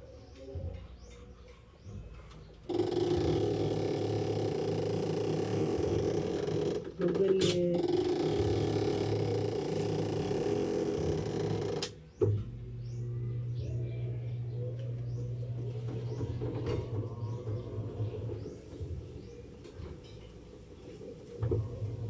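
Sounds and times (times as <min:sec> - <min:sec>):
washing machine humming: 0:02.6 - 0:22.0.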